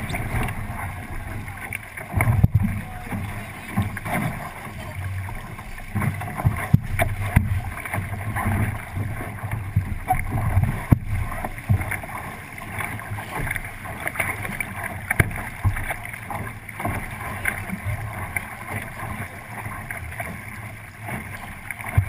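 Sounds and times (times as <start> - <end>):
water rushing along hull: 0.0 - 22.0.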